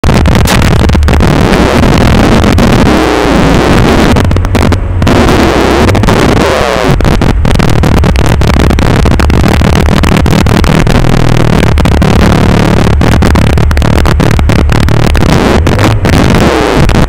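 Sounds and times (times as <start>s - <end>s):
distorted car engine roar: 0.0s - 17.0s.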